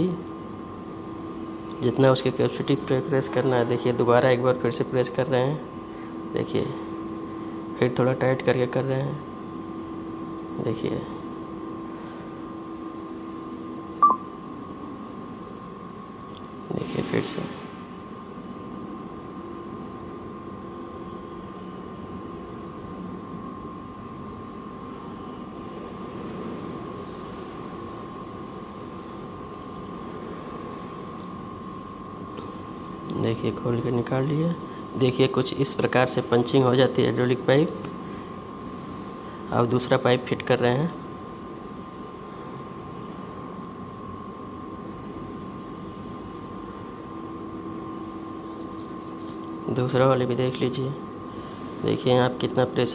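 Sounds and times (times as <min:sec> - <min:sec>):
low machine hum: 0:00.0 - 0:52.9.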